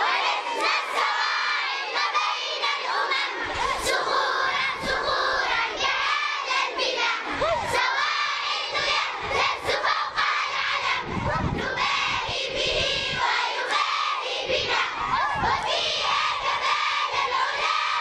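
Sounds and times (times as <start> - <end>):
crowd of children shouting: 0.0 - 18.0.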